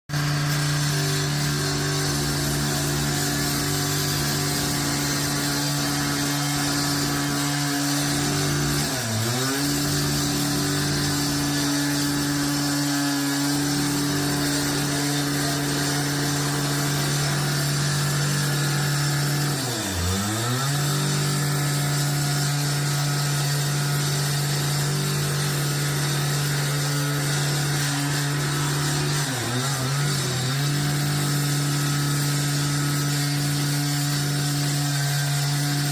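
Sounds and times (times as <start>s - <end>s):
concrete saw running: 0.1s - 35.9s.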